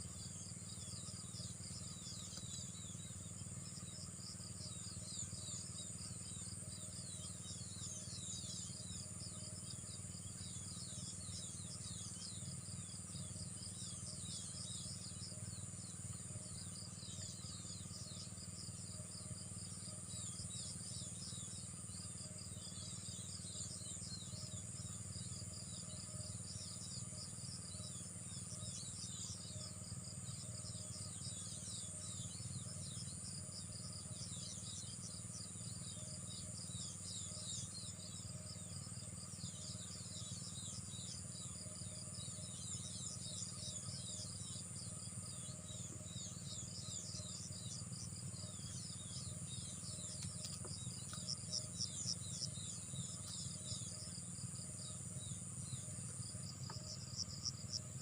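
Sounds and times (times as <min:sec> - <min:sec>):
high insect drone: 0:00.0 - 0:58.0
small birds chirping: 0:00.0 - 0:58.0.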